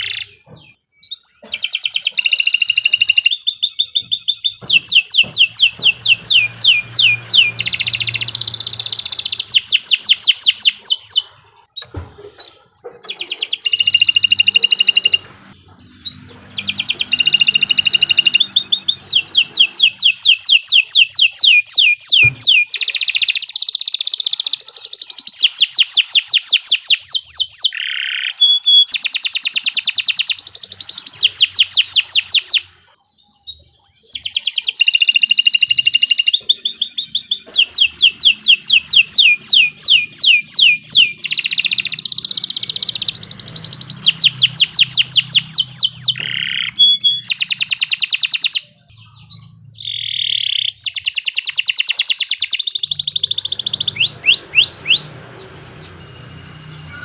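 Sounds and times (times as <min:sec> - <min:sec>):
canary singing trilled notes: 0:00.0 - 0:57.0.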